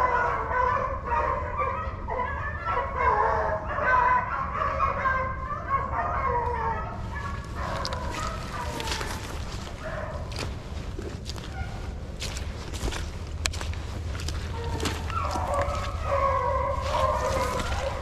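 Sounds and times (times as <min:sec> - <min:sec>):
pack of dogs baying: 0:00.0 - 0:18.0.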